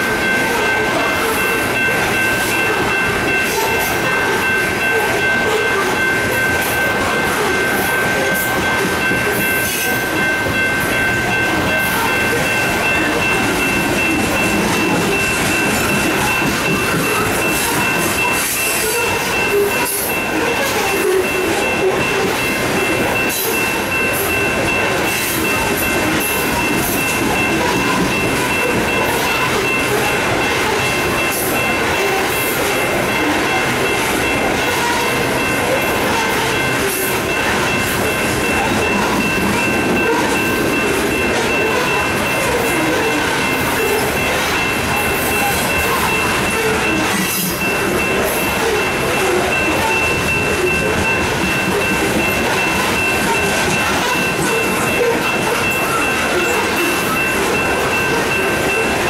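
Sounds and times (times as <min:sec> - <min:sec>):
hopper cars rolling on rails: 0:00.0 - 0:59.0.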